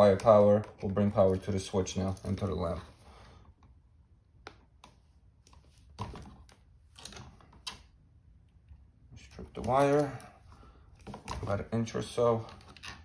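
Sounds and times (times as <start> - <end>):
wire and tools handled: 0.0 - 3.0, 4.5 - 13.0.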